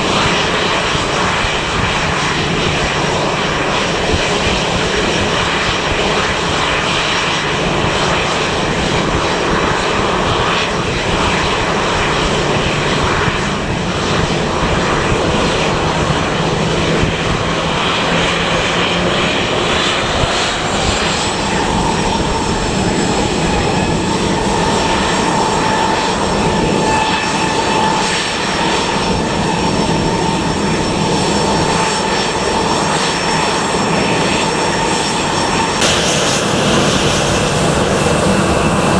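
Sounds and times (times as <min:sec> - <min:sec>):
jet engine whine: 0:00.0 - 0:38.9
jet engines roaring: 0:00.0 - 0:38.9.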